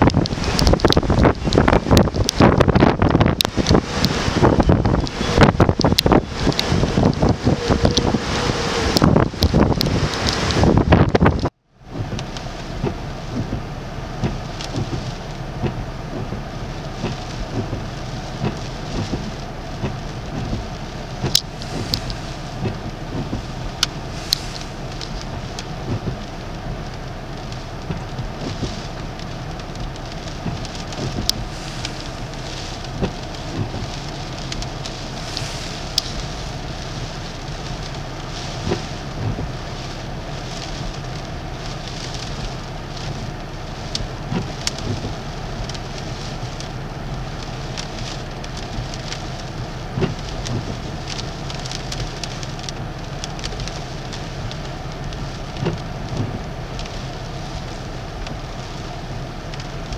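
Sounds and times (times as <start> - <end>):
wind-driven rain and spray: 0.0 - 59.9.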